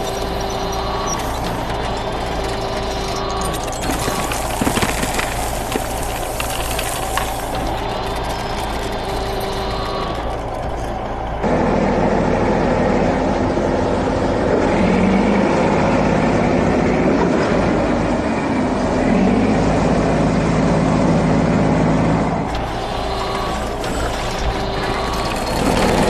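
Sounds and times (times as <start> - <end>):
heavy truck engine running: 0.0 - 26.0.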